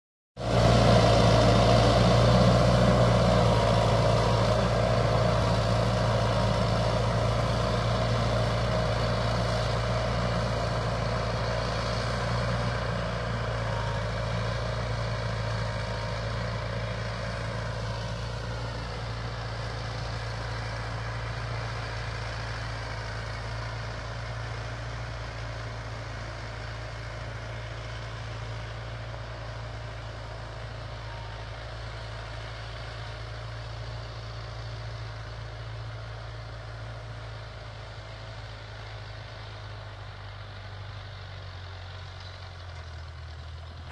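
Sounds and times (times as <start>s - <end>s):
tractor diesel engine under load: 0.4s - 43.9s.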